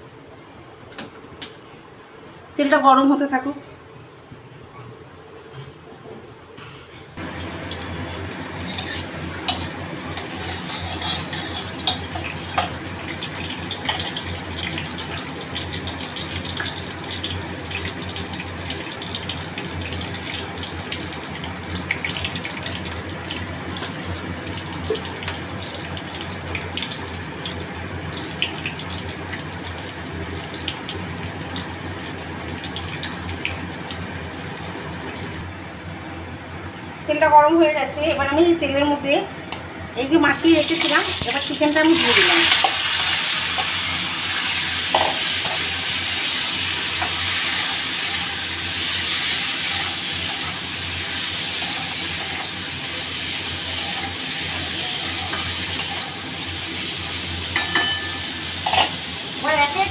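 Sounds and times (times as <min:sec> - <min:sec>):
oil sizzling in wok: 0:07.2 - 0:35.5, 0:40.2 - 0:59.9.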